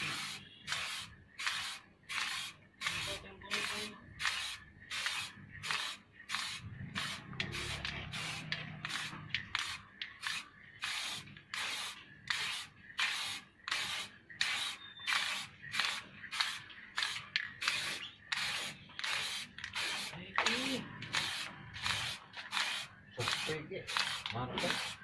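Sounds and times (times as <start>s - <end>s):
aerosol spray can hissing: 0.0s - 25.0s.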